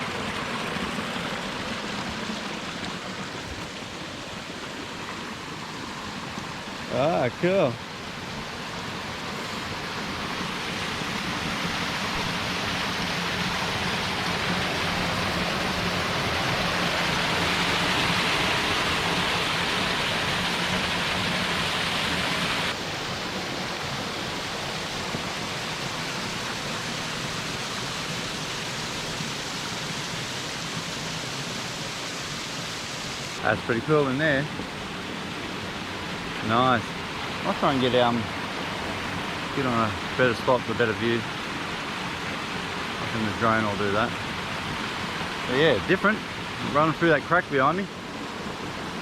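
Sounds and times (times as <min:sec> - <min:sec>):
waterfall rushing over rocks: 0:00.0 - 0:49.0.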